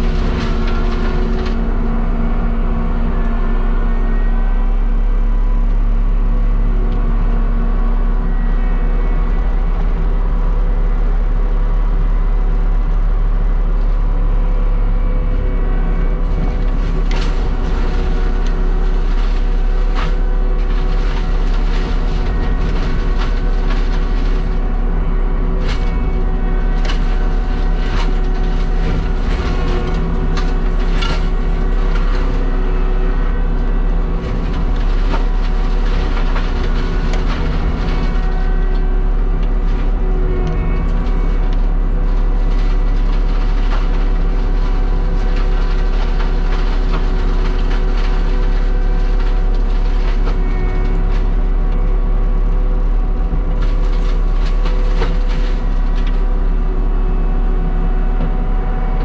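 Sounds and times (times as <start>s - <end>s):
heavy diesel machine running: 0.0s - 59.0s.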